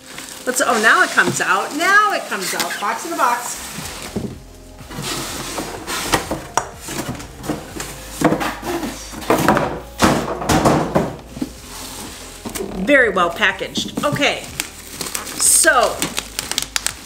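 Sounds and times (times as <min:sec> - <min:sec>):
cardboard boxes scraping: 0:00.0 - 0:10.0, 0:11.2 - 0:16.4.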